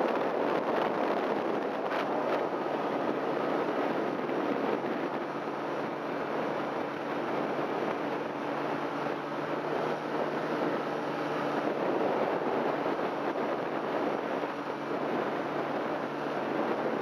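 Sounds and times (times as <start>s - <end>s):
engine and propeller drone: 0.0s - 17.0s
wind rushing over microphone: 0.0s - 17.0s.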